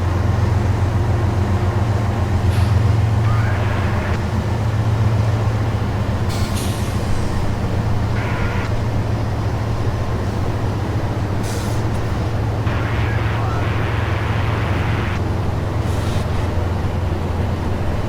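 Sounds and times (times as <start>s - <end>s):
freight train diesel rumble: 0.0s - 18.0s.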